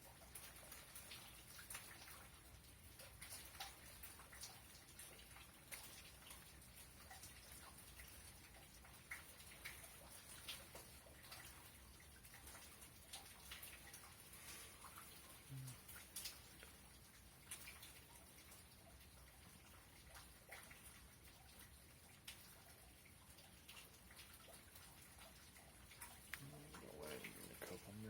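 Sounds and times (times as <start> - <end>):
raindrops ticking: 0.0 - 28.0.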